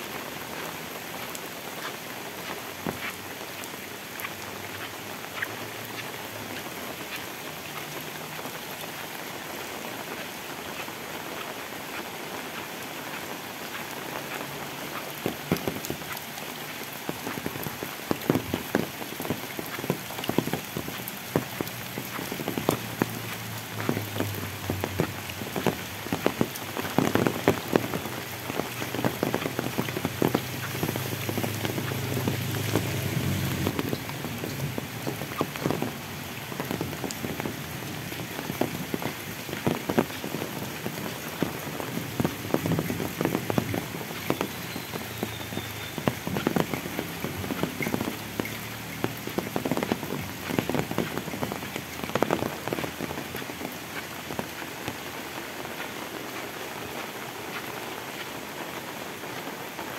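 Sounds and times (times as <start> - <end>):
raindrops ticking sharply: 0.0 - 59.8
heavy rain hissing: 0.0 - 59.9.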